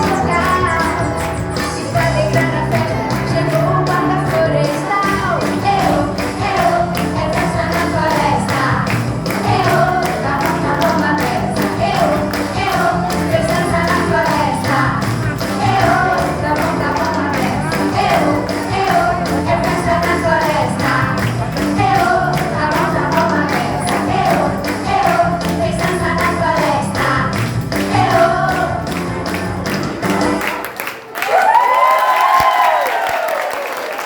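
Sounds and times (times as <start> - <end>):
person singing: 0.0 - 29.0
percussion beat: 0.0 - 30.8.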